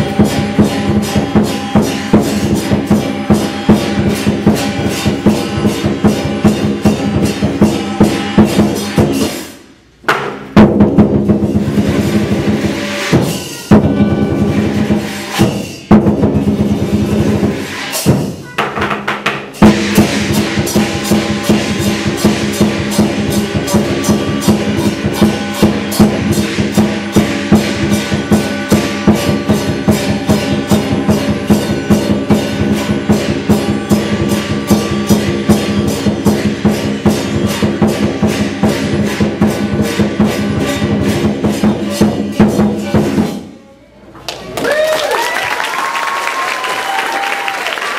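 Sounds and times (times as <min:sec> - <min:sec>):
gong: 0:00.0 - 0:09.6, 0:11.2 - 0:18.5, 0:19.6 - 0:43.4
barrel drum beating: 0:00.0 - 0:43.5
cymbals clashing: 0:00.0 - 0:43.9.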